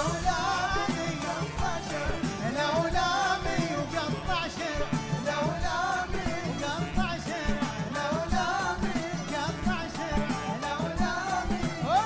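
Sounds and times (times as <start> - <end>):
man singing: 0.0 - 12.0
percussion beat: 0.0 - 12.0.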